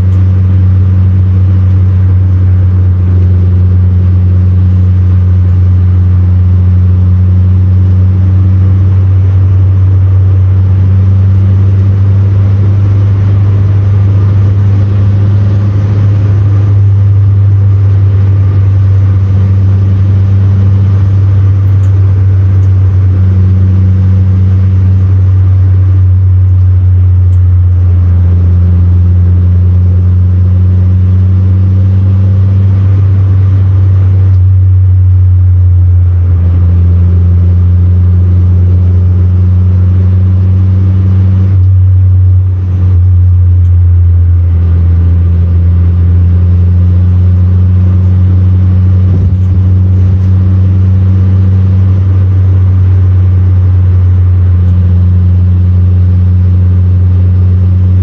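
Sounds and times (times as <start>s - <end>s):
car engine drone from inside cabin: 0.0s - 58.0s
road and wind noise: 0.0s - 58.0s.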